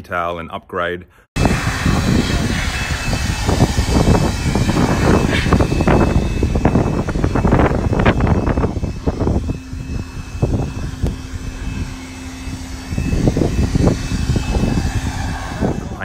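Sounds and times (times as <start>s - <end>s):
vehicle engine drone: 1.4s - 16.0s
wind buffeting microphone: 1.4s - 16.0s.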